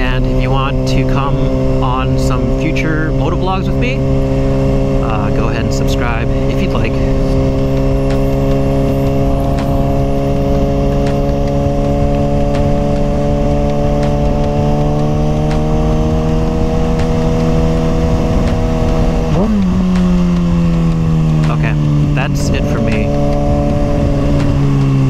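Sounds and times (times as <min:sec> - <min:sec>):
motorcycle engine revving: 0:00.0 - 0:25.0
wind noise: 0:00.0 - 0:25.0.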